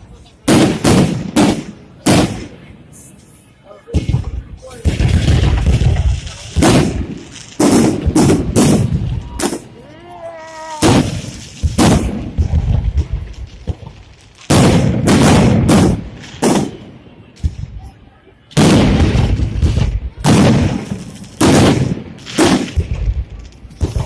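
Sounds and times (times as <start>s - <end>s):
firework booms: 0.0s - 3.1s, 3.8s - 24.0s
firework crackle: 0.0s - 24.0s.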